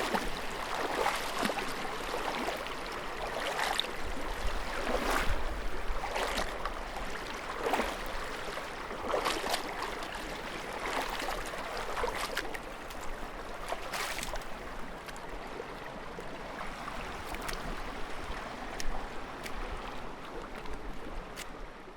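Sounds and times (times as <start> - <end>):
footsteps wading through water: 0.0 - 21.9.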